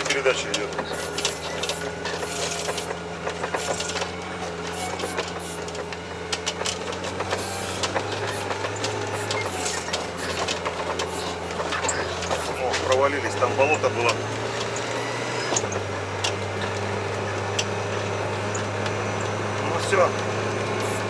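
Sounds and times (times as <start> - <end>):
low engine drone: 0.0 - 21.0
running gear clattering: 0.0 - 21.0.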